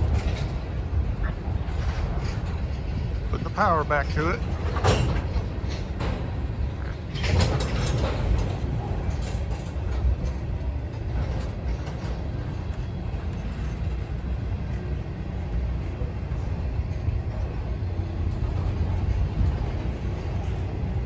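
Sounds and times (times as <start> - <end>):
train cars clanking: 0.0 - 21.0
train wheels rumbling on rail: 0.0 - 21.0.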